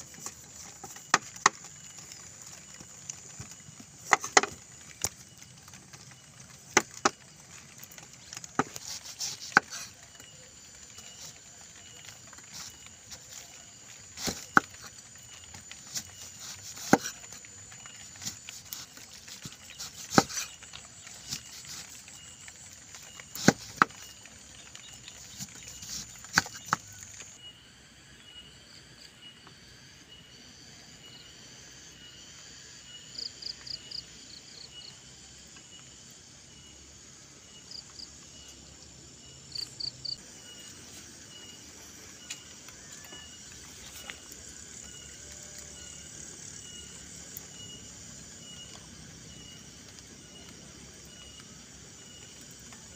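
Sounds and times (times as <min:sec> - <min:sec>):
higher insect chirps: 0:00.0 - 0:52.9
insects chirping: 0:00.0 - 0:52.9.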